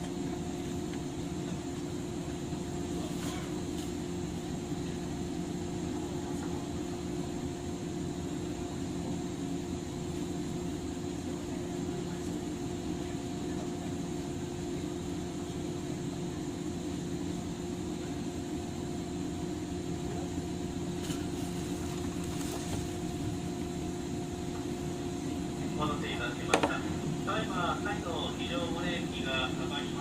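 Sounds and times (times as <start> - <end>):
train car ventilation hum: 0.0 - 30.0.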